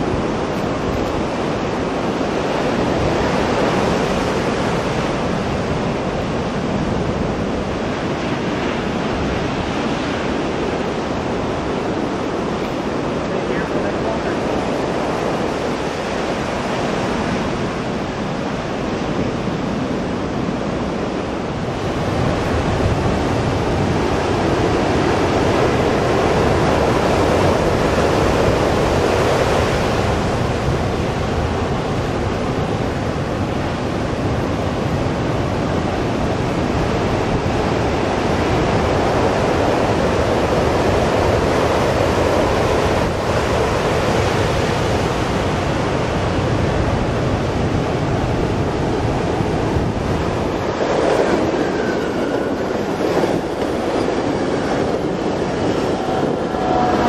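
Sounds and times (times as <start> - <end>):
ocean surf breaking: 0.0 - 57.0
wind rumbling on microphone: 0.0 - 57.0.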